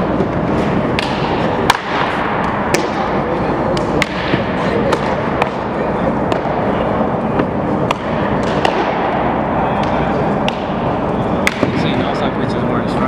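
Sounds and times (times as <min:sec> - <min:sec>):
balls cracking against bats: 0:00.0 - 0:12.1
batting cage background noise: 0:00.0 - 0:13.0.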